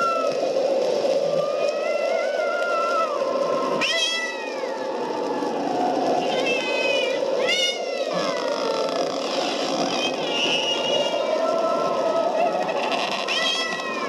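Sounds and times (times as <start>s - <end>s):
cats yowling: 0.0s - 0.5s, 1.3s - 14.0s
rushing background noise: 0.0s - 14.0s.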